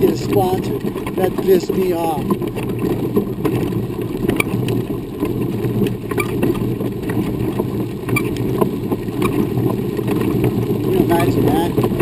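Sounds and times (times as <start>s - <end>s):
grit clicking under wheels: 0.0s - 12.0s
wheelchair tyres rolling on gravel: 0.0s - 12.0s.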